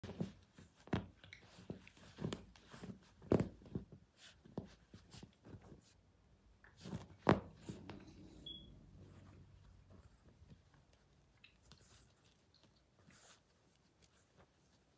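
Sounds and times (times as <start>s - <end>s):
puppy scratching fabric bed: 0.0s - 6.0s, 6.8s - 8.3s, 9.0s - 14.9s.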